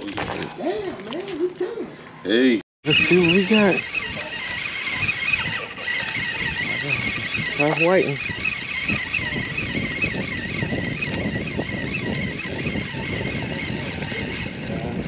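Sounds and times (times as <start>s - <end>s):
wind buffeting microphone: 2.8s - 15.0s
fishing reel cranking: 2.9s - 15.0s.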